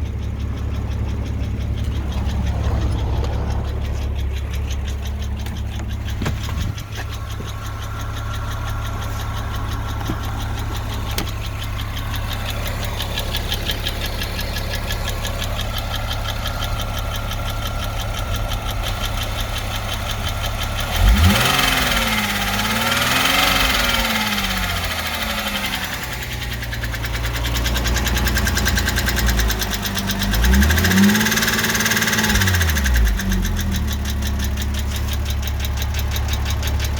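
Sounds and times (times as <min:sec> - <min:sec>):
car engine idling and revving: 0:00.0 - 0:36.9
engine ticking: 0:00.0 - 0:36.9.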